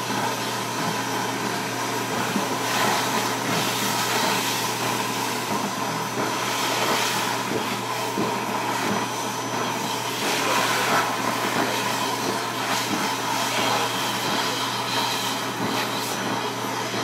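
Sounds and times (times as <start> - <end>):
blower hissing and humming: 0.0 - 17.0.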